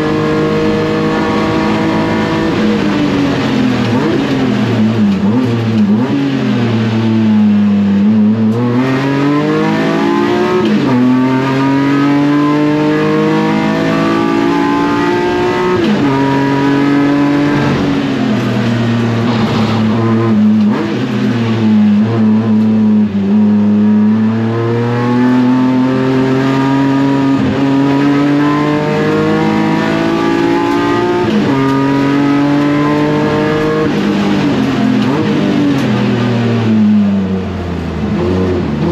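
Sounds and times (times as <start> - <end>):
racing car engine revving: 0.0 - 38.9.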